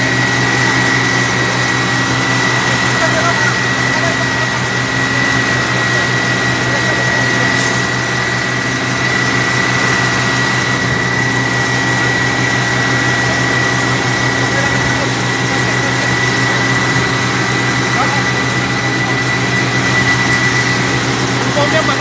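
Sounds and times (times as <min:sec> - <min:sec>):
fire truck pump engine running: 0:00.0 - 0:22.0
high-pitched whine: 0:00.0 - 0:22.0.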